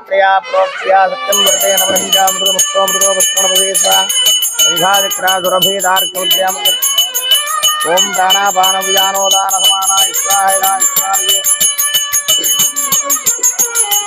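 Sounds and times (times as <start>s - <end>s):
metal bell rung rapidly: 1.3s - 14.0s.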